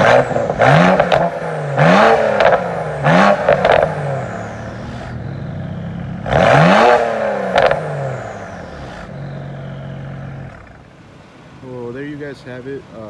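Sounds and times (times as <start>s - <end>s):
exhaust crack: 0.0s - 11.0s
car engine idling and revving: 0.0s - 13.0s.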